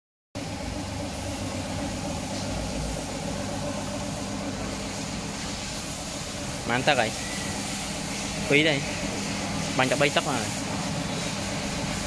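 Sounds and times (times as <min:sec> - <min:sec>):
air compressor humming: 0:00.4 - 0:12.0.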